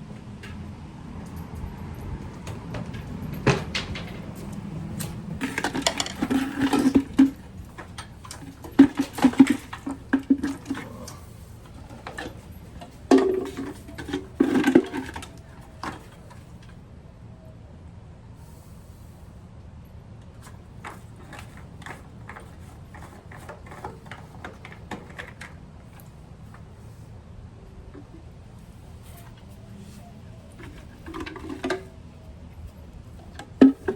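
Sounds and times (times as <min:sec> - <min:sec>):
objects clattering and knocking: 0:00.1 - 0:16.8, 0:20.4 - 0:26.8, 0:29.0 - 0:33.9.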